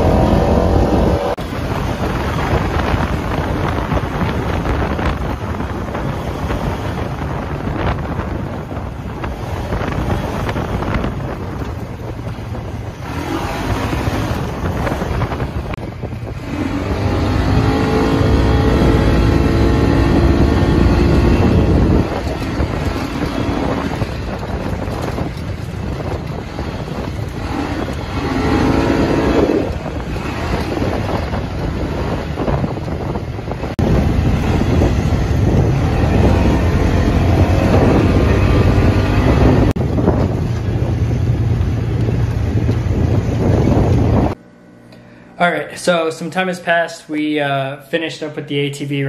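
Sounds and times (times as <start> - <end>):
wind noise on microphone: 0.0 - 44.5
vehicle engine running: 0.0 - 45.4.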